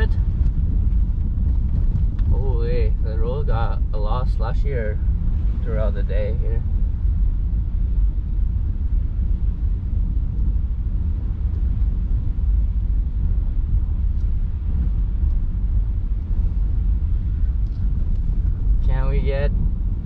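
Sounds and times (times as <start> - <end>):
road rumble inside vehicle: 0.0 - 20.0.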